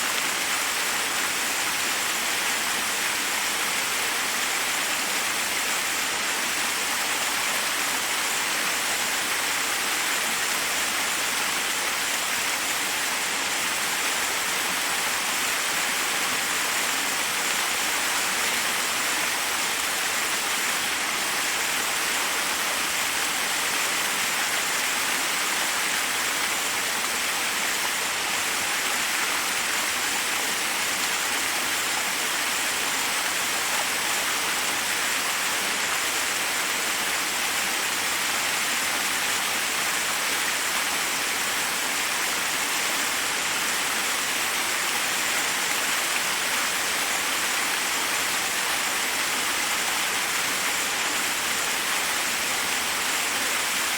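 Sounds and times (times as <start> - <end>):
waterfall cascading over rocks: 0.0 - 53.9.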